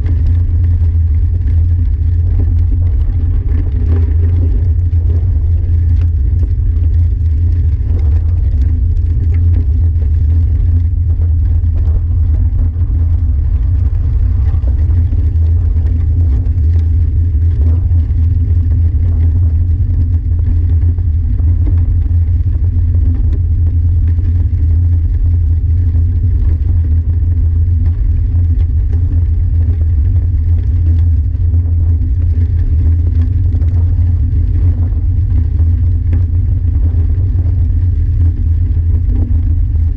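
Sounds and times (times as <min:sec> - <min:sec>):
gravel crackling under wheels: 0:00.0 - 0:39.9
wind and vibration rumble: 0:00.0 - 0:39.9.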